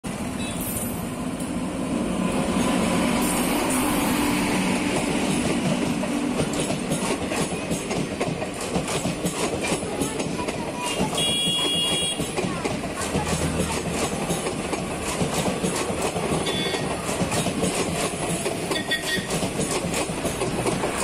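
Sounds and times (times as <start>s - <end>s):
train rolling rumble: 0.1s - 21.0s
wheels clacking over rail joints: 2.3s - 21.0s.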